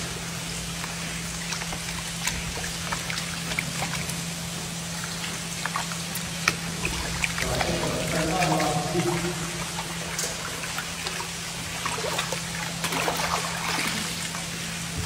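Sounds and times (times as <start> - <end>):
small splashes and drips: 0.0 - 15.0
water swirled in plastic basin: 0.0 - 15.0.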